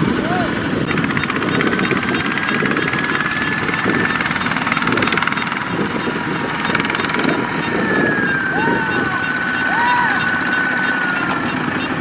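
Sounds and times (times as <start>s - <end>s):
diesel engine pulsing: 0.0s - 12.0s.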